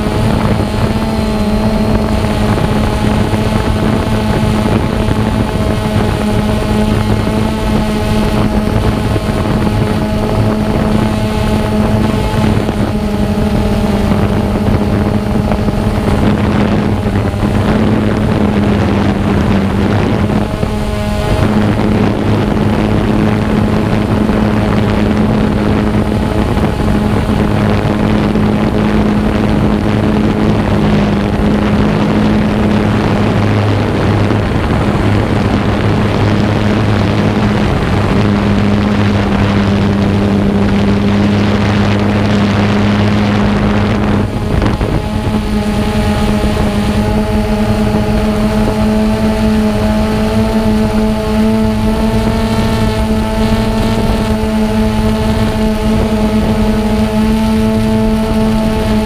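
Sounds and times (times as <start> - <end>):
drone motors humming: 0.0 - 59.0
wind buffeting microphone: 0.0 - 59.0.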